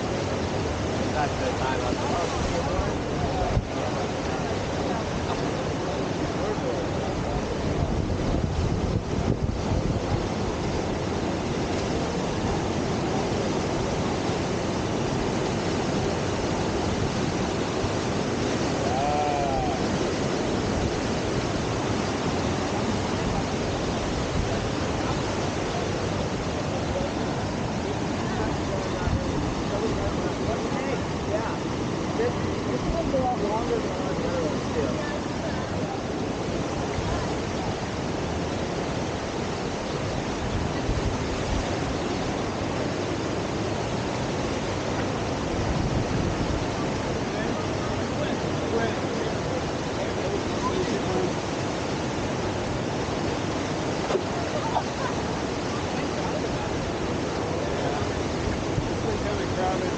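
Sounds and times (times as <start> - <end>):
river whitewater rushing: 0.0 - 59.9.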